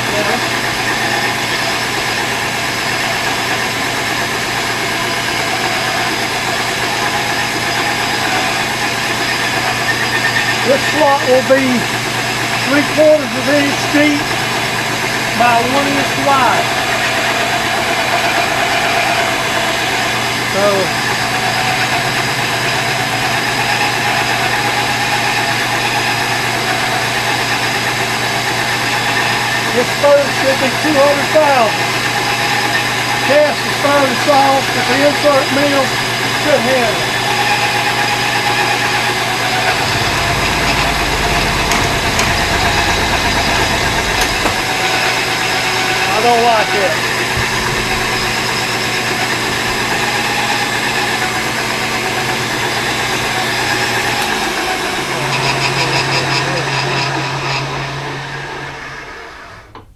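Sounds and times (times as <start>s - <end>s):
milling machine cutting metal: 0.0s - 59.6s.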